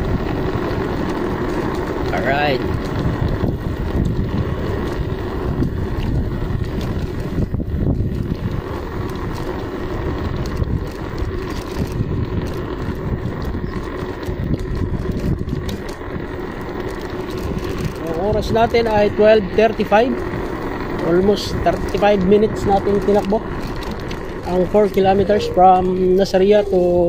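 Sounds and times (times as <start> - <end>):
wind and road noise on microphone: 0.0 - 27.0.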